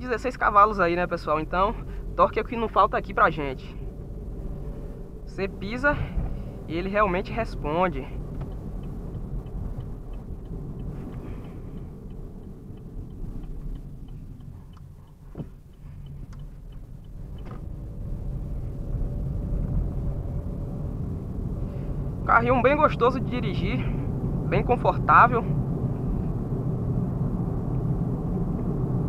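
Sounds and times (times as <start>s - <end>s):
car engine and road rumble: 0.0s - 29.0s
turn signal ticking: 0.0s - 29.0s.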